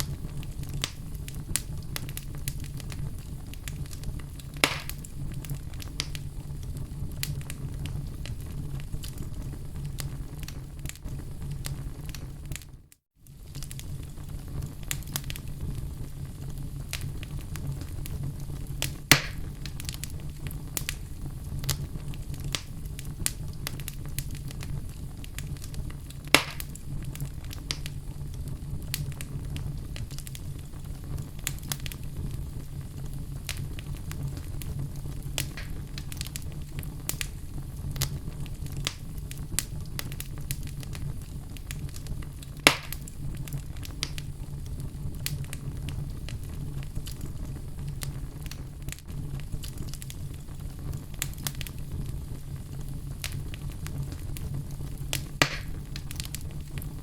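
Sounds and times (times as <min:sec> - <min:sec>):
fire crackling in fireplace: 0:00.0 - 0:57.0
fire pops: 0:00.0 - 0:57.0.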